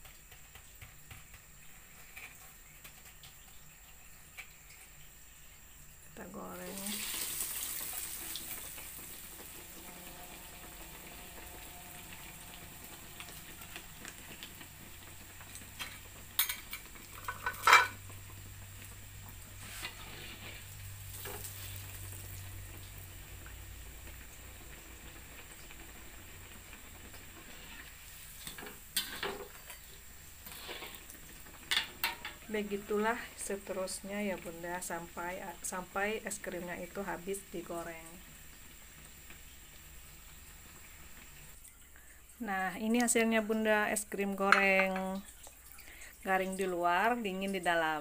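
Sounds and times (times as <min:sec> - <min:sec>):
oil sizzling: 0:00.0 - 0:48.0.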